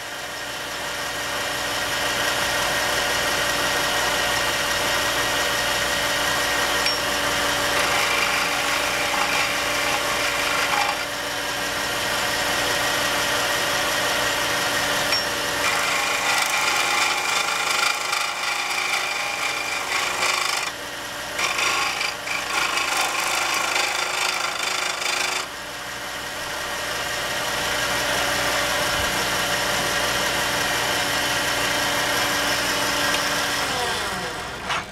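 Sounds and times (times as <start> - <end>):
chisel cutting spinning wood: 0.0 - 34.9
wood lathe running: 0.0 - 34.9.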